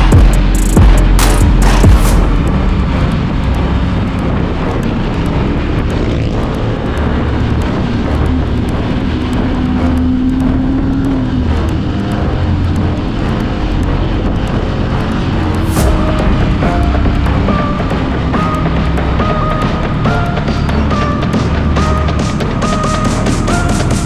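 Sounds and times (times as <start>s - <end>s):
motorcycle engine running: 0.0s - 24.0s
steady tone: 0.0s - 24.0s.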